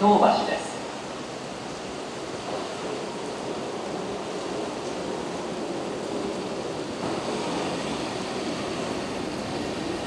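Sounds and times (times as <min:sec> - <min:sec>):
heavy rain: 0:00.0 - 0:10.0
train rolling slowly: 0:00.0 - 0:10.0.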